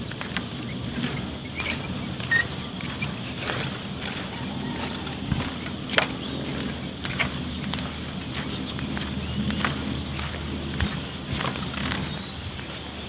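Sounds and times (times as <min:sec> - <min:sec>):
footsteps on wooden slats: 0:00.0 - 0:13.0
steady low rumble: 0:00.0 - 0:13.0.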